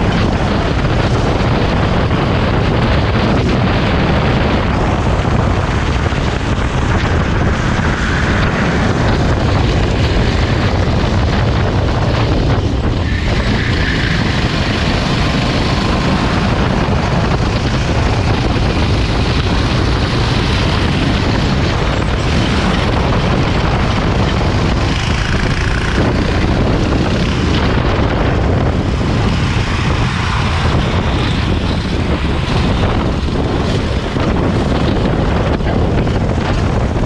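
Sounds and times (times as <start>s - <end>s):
go-kart engine running: 0.0s - 37.0s
wind buffeting microphone: 0.0s - 37.0s.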